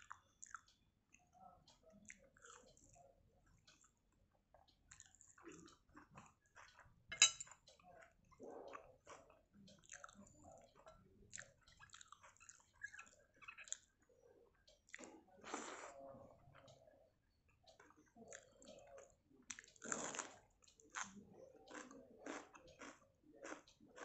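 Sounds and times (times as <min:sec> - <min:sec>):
person chewing food: 0:00.0 - 0:01.4, 0:02.0 - 0:02.9, 0:03.6 - 0:14.0, 0:14.7 - 0:16.8, 0:17.7 - 0:24.0
wet squishing of rice: 0:00.0 - 0:14.1, 0:17.6 - 0:24.0.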